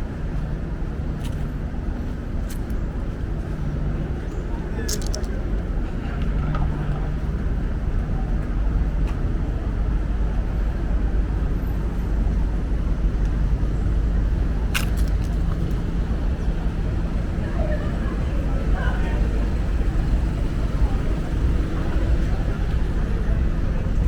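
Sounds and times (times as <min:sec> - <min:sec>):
traffic engines rumbling: 0:00.0 - 0:24.0.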